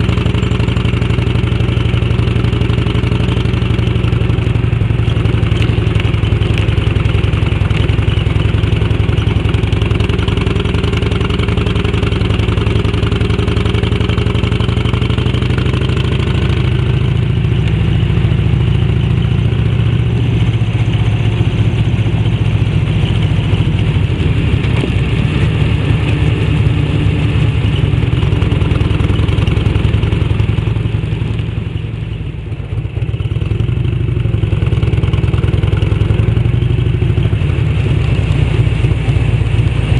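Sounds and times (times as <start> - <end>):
motorcycle engine at road speed: 0.0 - 39.9.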